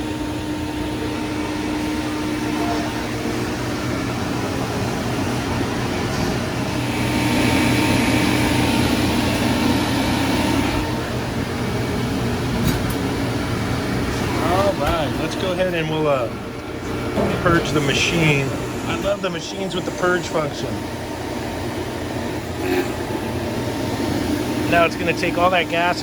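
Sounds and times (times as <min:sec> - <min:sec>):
refrigerant recovery machine humming: 0:00.0 - 0:26.0.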